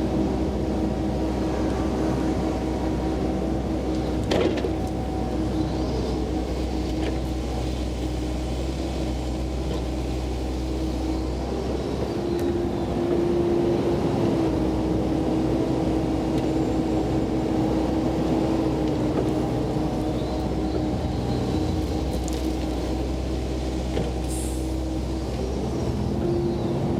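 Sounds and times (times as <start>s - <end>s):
excavator engine and hydraulics: 0.0s - 26.9s.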